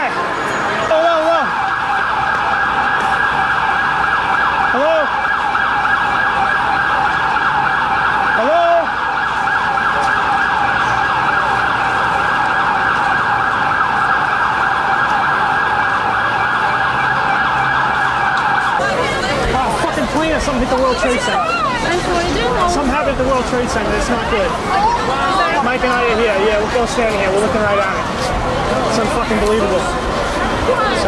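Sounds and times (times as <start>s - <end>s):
emergency sirens wailing: 0.0s - 31.0s
rising and falling siren glides: 0.0s - 31.0s.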